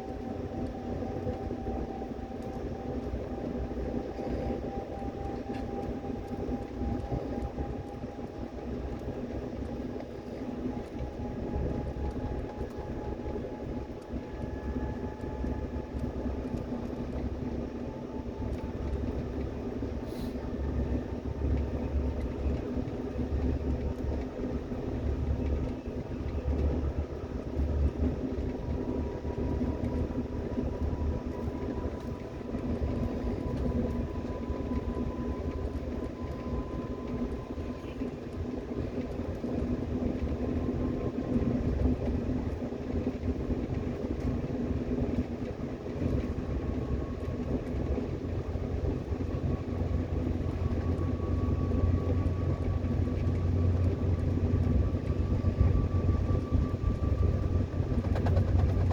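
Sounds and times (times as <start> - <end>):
train wheels rumbling on track: 0.0 - 58.9.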